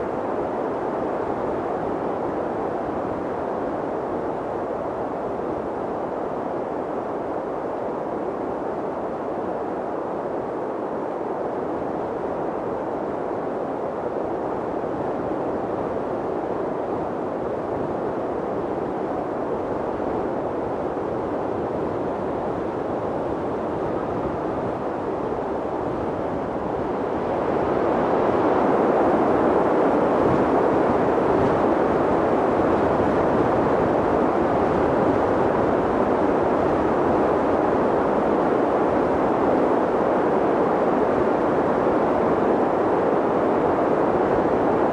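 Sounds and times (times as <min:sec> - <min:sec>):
wind blowing: 0:08.2 - 0:44.9.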